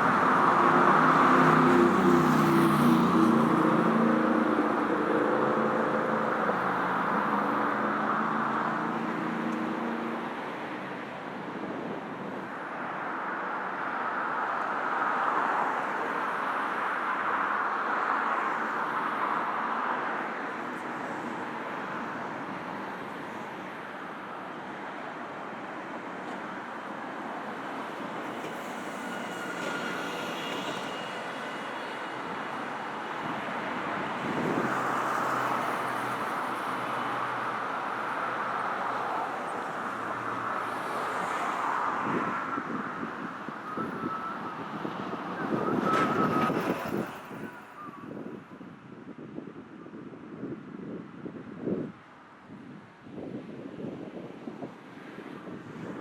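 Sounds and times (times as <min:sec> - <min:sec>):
vehicles passing: 0:00.0 - 0:49.3.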